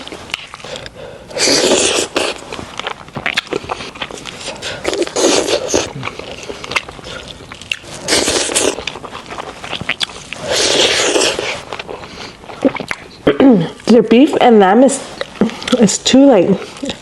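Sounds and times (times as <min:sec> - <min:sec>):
wet chewing mouth clicks: 0:00.0 - 0:13.9.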